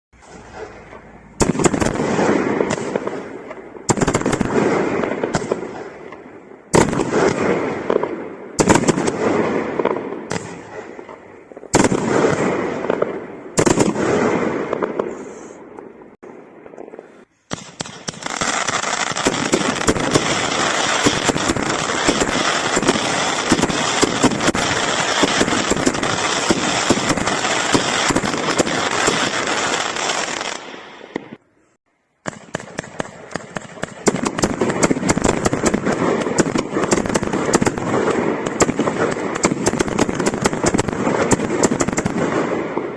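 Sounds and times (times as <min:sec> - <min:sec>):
firework cake crackling pops: 0:00.2 - 0:31.4, 0:32.2 - 0:42.9.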